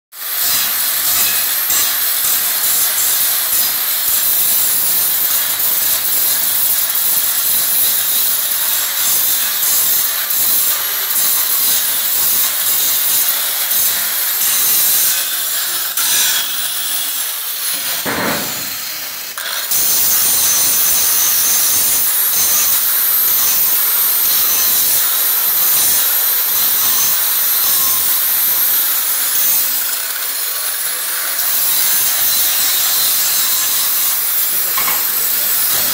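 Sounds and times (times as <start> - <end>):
angle grinder grinding steel: 0.1 - 35.9.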